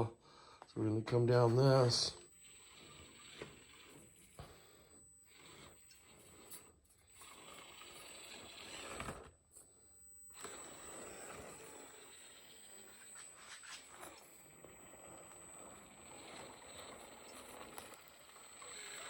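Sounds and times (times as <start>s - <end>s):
toy tyres scraping: 1.3s - 19.0s
small electric motor whirring: 1.4s - 19.0s.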